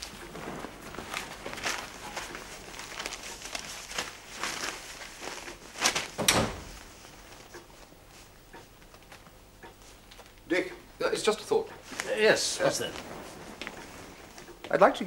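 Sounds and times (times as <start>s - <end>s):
newspaper rustling: 0.0s - 10.4s, 11.8s - 14.9s.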